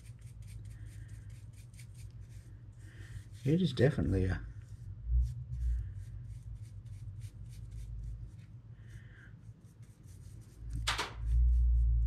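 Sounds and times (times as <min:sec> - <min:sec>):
paintbrush scratchy strokes: 0:00.0 - 0:12.0.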